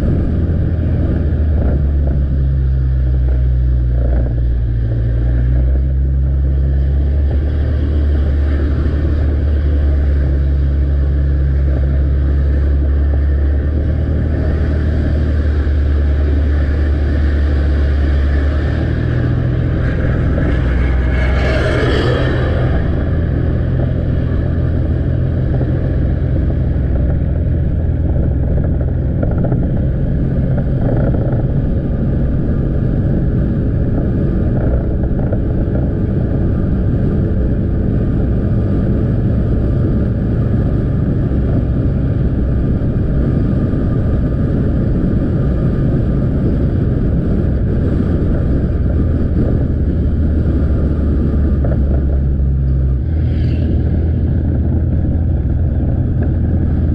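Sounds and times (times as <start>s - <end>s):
road noise: 0.0s - 56.9s.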